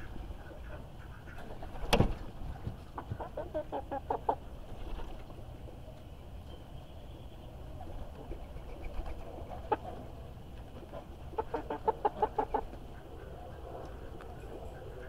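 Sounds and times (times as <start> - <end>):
chicken clucking: 0.0 - 6.6, 7.8 - 15.0.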